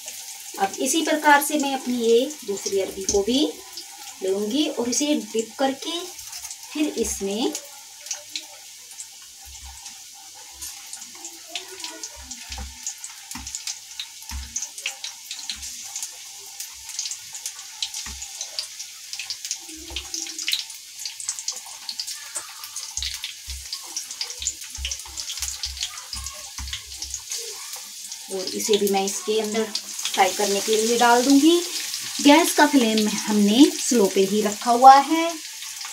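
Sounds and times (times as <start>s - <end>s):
rolls deep-frying in oil: 0.0s - 35.9s.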